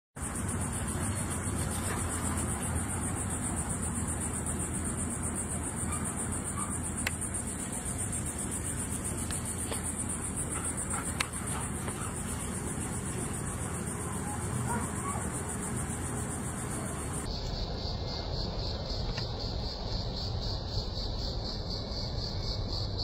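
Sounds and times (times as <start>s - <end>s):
insects trilling: 0.2s - 23.0s.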